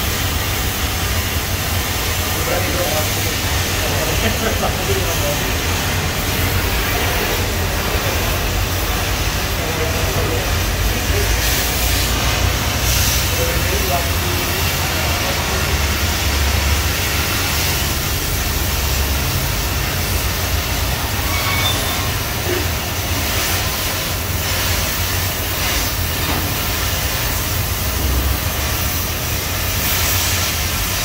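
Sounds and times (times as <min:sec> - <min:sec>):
loud hiss of oxygen jet: 0:00.0 - 0:31.0.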